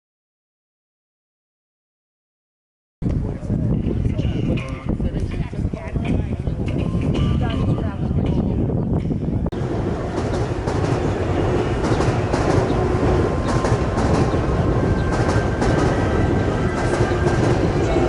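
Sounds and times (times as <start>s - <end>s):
loud steady rumbling: 3.1s - 18.0s.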